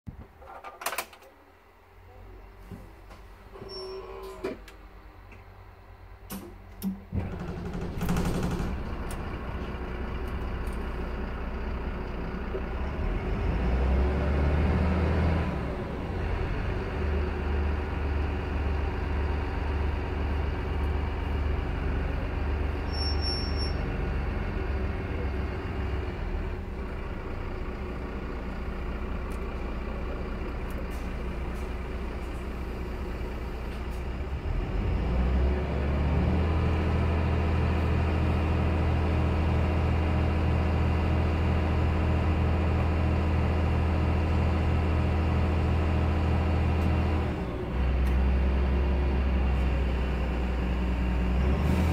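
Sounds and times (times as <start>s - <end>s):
diesel engine starting and idling: 0.3s - 51.9s.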